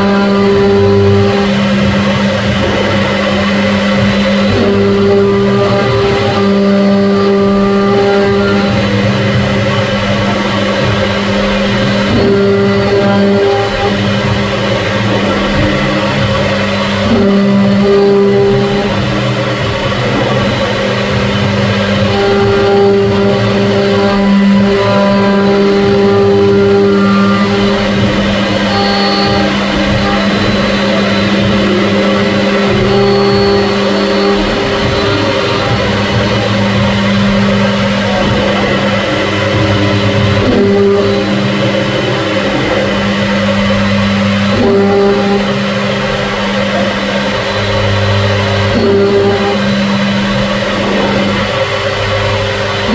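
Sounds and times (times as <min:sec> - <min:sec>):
high whining tones: 0:00.0 - 0:52.9
machine motor hum: 0:00.0 - 0:52.9.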